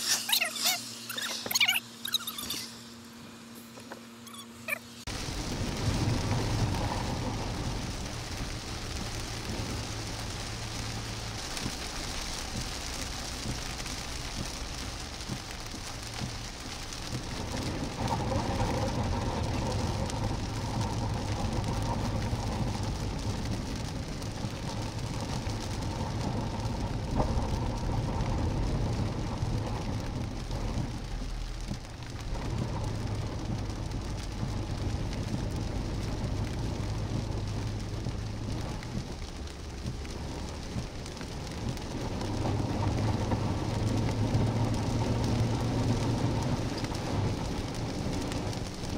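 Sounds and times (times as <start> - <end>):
engine rumble: 0.0 - 48.9
tyres on a flooded road: 0.0 - 48.9
heavy rain on a vehicle: 3.3 - 48.9.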